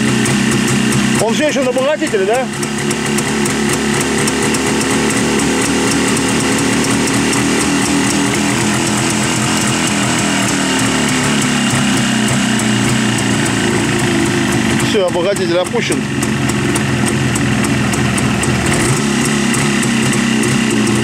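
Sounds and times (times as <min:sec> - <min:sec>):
two-stroke engine idling: 0:00.0 - 0:21.0.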